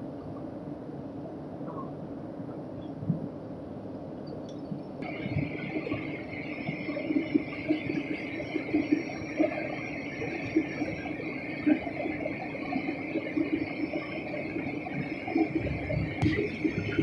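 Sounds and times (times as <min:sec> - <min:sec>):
airliner engines and rushing air: 0:00.0 - 0:17.0
faint high whine: 0:00.0 - 0:17.0.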